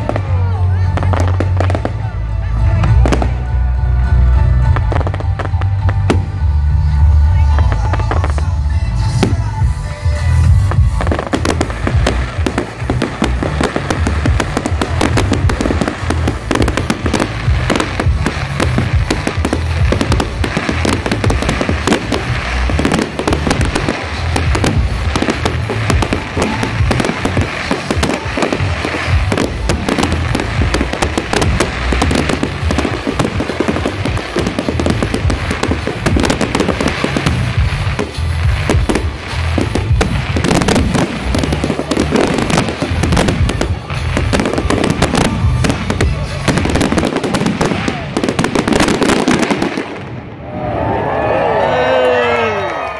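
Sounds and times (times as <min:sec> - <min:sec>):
fireworks banging and crackling: 0:00.0 - 0:50.4
music playing: 0:00.0 - 0:52.9.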